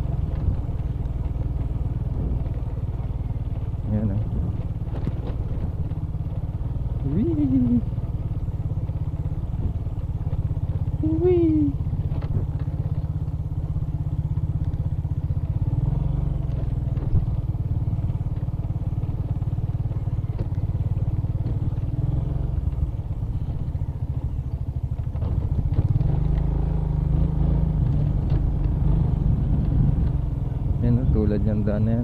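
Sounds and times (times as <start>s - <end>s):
motorcycle engine under load: 0.0s - 32.0s
rattles over bumps: 0.0s - 32.0s.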